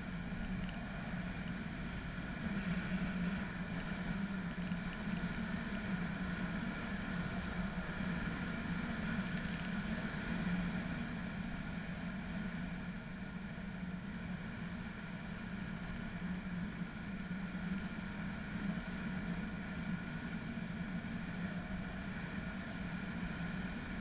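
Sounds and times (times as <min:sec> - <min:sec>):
steady engine drone: 0:00.0 - 0:24.0.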